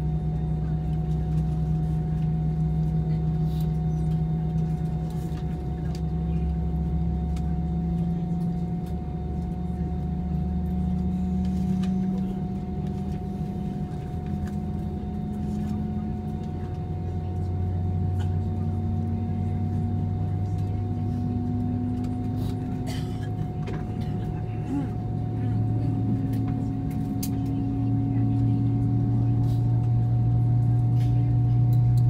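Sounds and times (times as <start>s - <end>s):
aircraft cabin engine drone: 0.0s - 32.0s
low hum rising in pitch: 0.0s - 32.0s.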